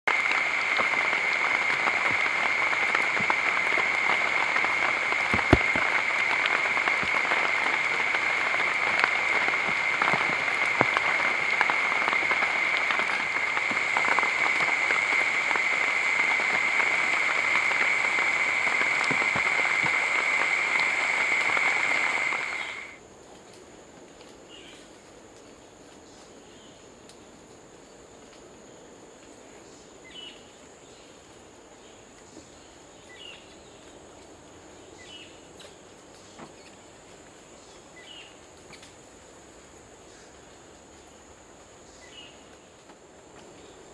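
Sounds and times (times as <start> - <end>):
insect chorus: 0.1 - 43.9.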